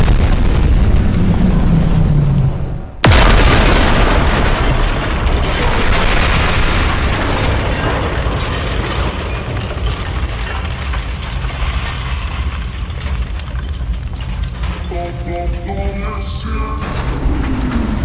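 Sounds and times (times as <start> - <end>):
explosion blast and rumble: 0.0 - 14.9, 16.8 - 18.0.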